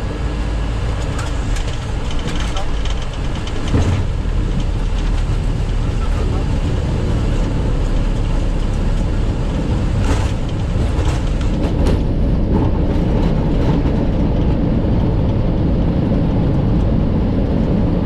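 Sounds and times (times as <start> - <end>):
airplane rumble on runway: 0.0 - 18.0.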